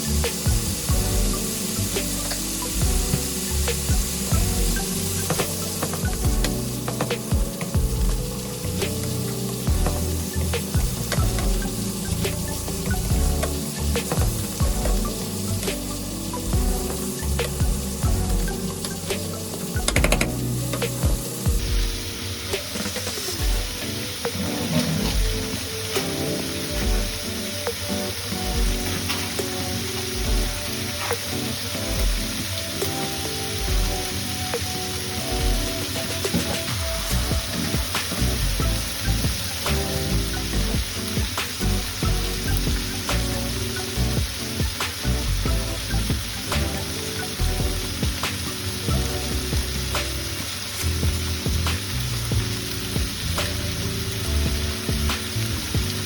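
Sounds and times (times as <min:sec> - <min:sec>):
background music with low beat: 0:00.0 - 0:56.0
food sizzling in a frying pan: 0:00.0 - 0:56.0.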